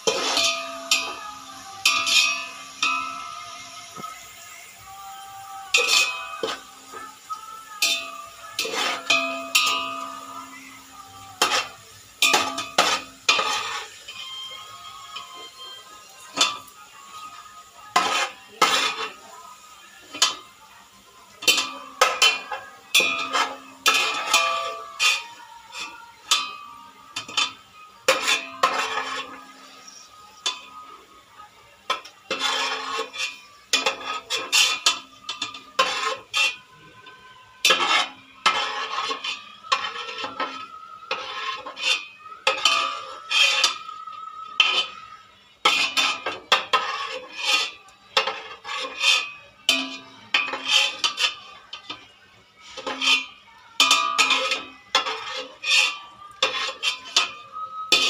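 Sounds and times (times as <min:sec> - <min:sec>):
metal spoon scraping a pot: 0:00.0 - 0:31.1, 0:31.8 - 0:58.0.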